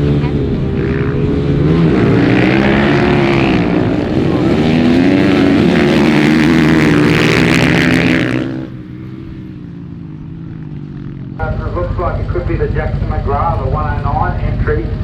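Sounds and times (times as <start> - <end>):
off-road vehicle engine revving: 0.0 - 9.4, 11.4 - 15.0.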